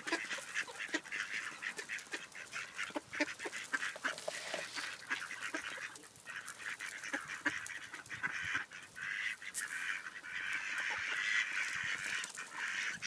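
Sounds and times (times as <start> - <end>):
bills pecking on gravel: 0.0 - 13.0
ducks quacking: 0.0 - 13.0.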